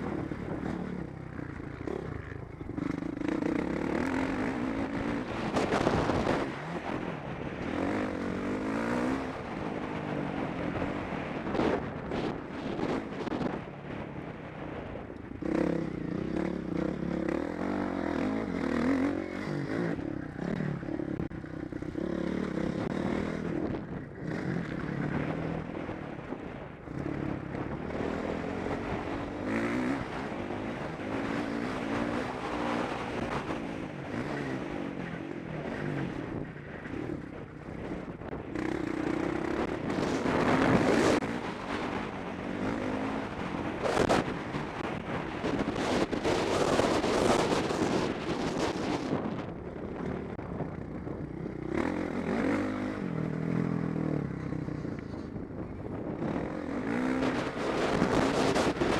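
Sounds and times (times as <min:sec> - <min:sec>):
motocross bike engine revving: 0:00.0 - 0:14.0, 0:15.4 - 0:49.5.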